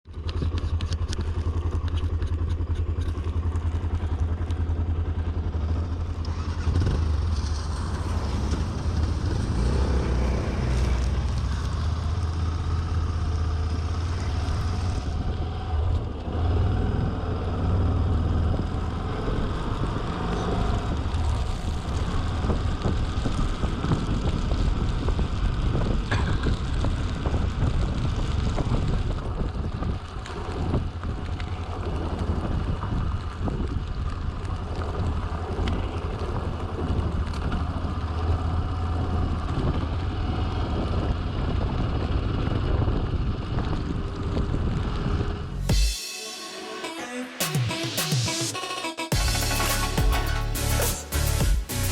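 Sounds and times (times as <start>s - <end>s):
motorcycle engine running: 0.0s - 46.1s, 49.1s - 51.9s.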